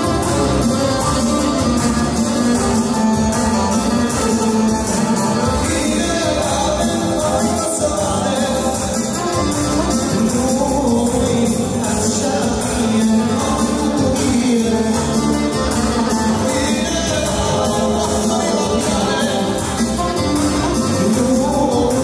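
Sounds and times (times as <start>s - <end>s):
dance music with singing: 0.0s - 22.0s.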